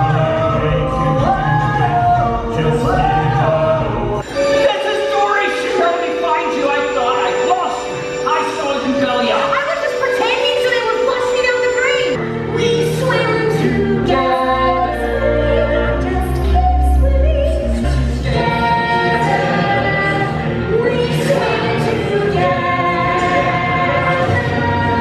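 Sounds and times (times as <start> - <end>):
ensemble singing in chorus: 0.0 - 25.0
musical accompaniment: 0.0 - 25.0.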